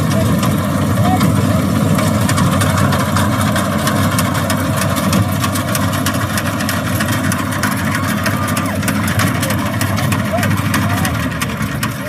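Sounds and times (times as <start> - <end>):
diesel engine running: 0.0 - 12.0
fast irregular clatter: 0.0 - 12.0.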